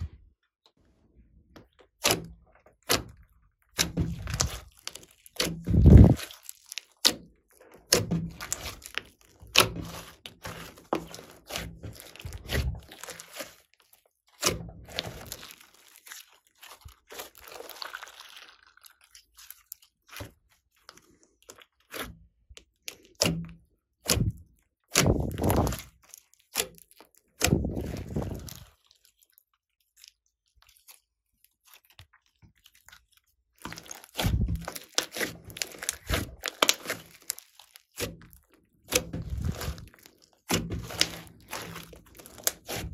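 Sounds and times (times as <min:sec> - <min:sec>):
slime squishing: 0:00.0 - 0:42.9.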